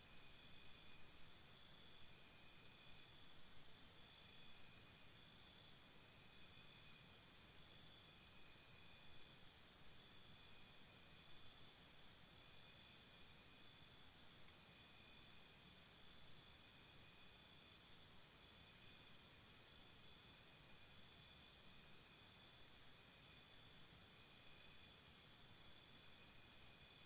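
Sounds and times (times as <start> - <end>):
crickets chirping: 0.0 - 27.0
soft outdoor hiss: 0.0 - 27.0.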